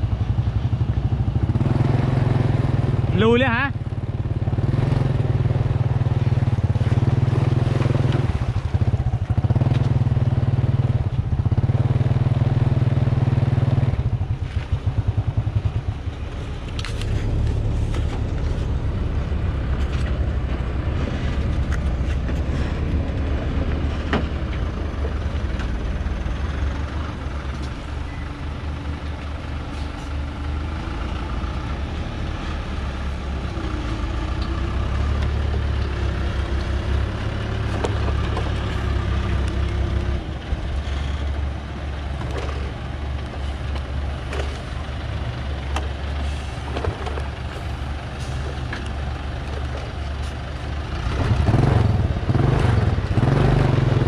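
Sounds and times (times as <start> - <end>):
nearby engine running: 0.0 - 54.0
truck diesel engine droning: 0.0 - 54.0.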